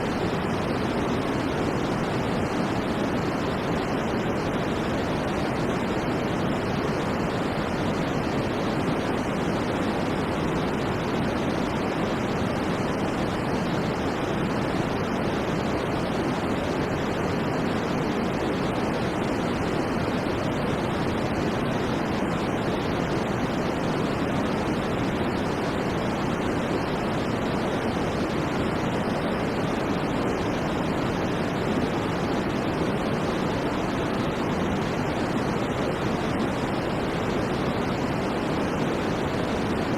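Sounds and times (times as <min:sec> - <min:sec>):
soft white noise hiss: 0:00.0 - 0:39.9.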